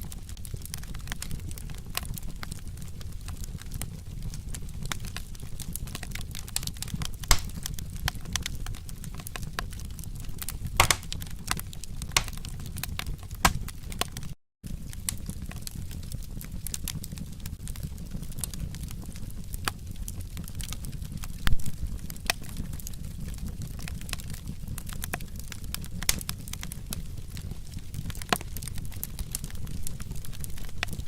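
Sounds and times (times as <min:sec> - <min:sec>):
low rumble of flames: 0:00.0 - 0:31.0
wood fire crackling: 0:00.0 - 0:31.0
sharp fire pops: 0:00.3 - 0:31.0.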